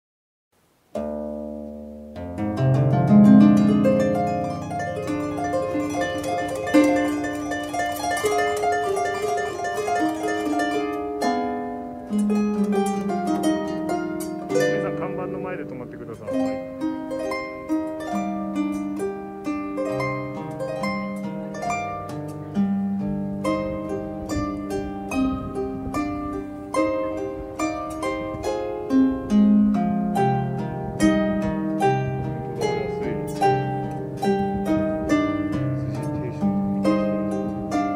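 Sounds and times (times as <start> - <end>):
harp music: 0.9 - 37.9.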